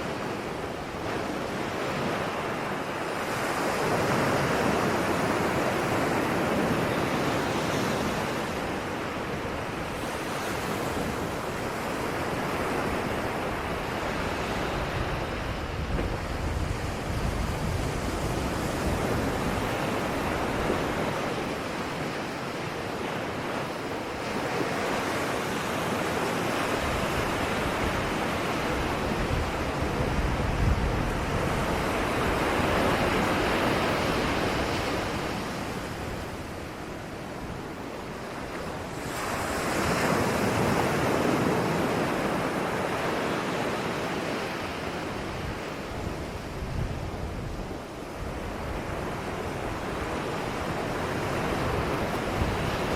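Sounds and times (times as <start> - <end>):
ocean waves breaking on shore: 0.0 - 52.9.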